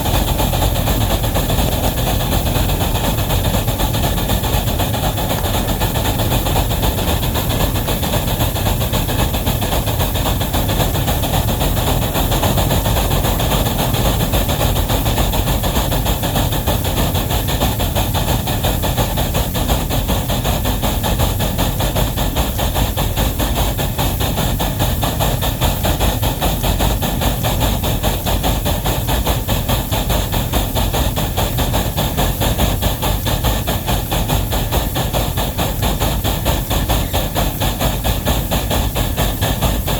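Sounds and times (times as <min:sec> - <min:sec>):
steam hiss: 0:00.0 - 0:39.9
steam locomotive beats: 0:00.0 - 0:39.9.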